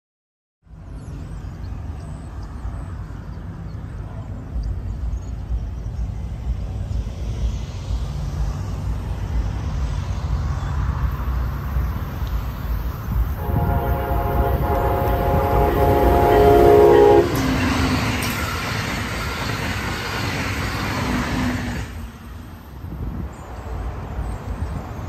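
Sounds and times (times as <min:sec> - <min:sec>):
passenger train rumble: 0:00.6 - 0:25.0.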